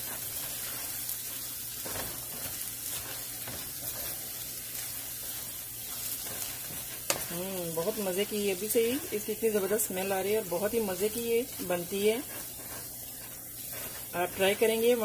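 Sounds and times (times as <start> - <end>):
filling sizzling in a pan: 0.0 - 15.0
spatula scraping a pan: 0.0 - 15.0.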